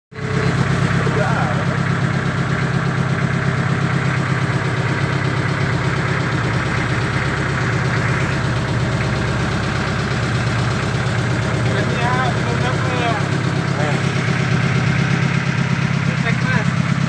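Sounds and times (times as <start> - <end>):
boat engine humming: 0.1 - 17.0.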